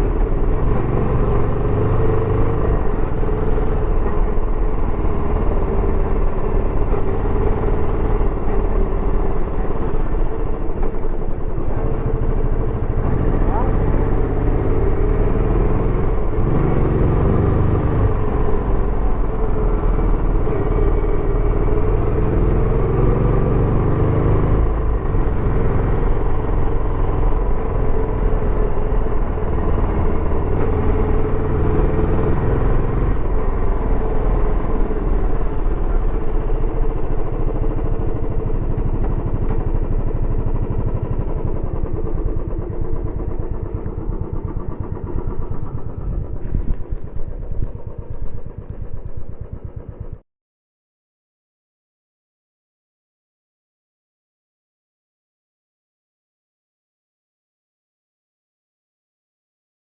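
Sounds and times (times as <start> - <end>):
motorcycle engine while riding: 0.0 - 50.2.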